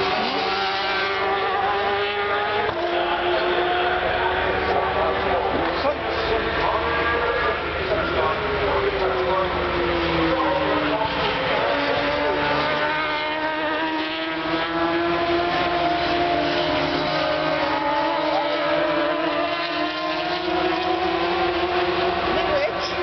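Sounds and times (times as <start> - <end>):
motorcycle engines at high revs: 0.0 - 23.0.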